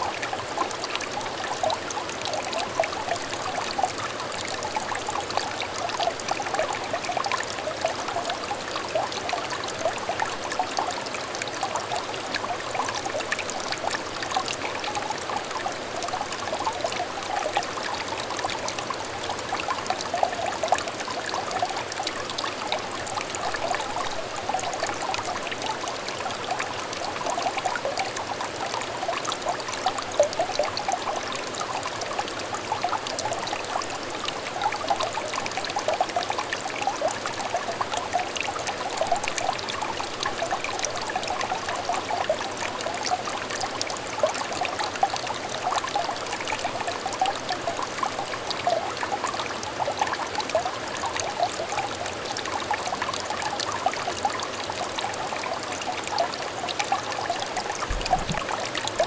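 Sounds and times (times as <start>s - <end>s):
stream trickling and burbling: 0.0s - 59.0s.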